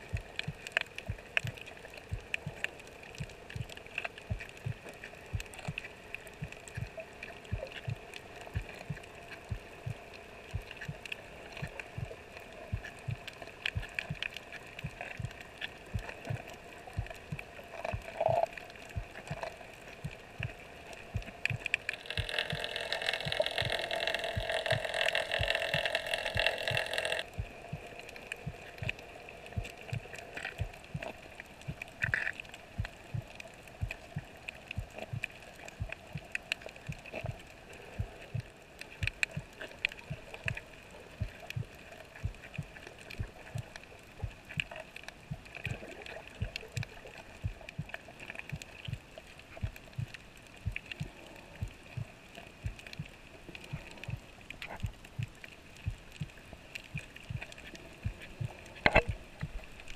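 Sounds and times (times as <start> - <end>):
crackling hiss: 0.0 - 59.9.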